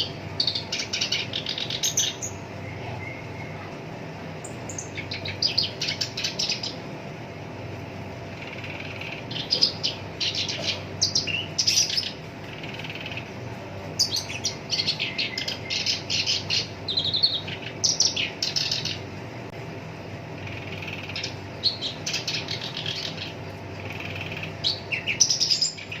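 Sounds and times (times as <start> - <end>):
warbler singing chattering phrases: 0.0 - 19.3, 20.1 - 26.0.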